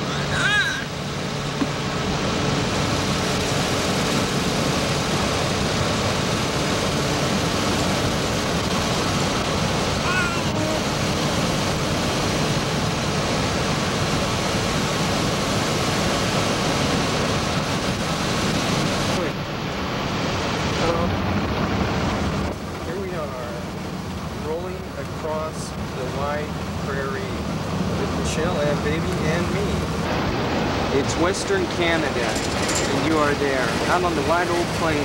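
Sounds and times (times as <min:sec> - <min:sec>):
road and engine noise in car: 0:00.0 - 0:35.0.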